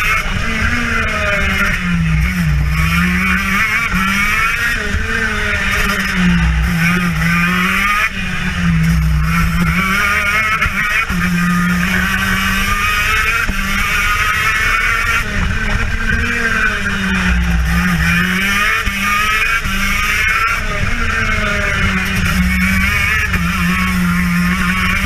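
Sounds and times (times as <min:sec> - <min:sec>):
kart engine at high revs: 0:00.0 - 0:25.0.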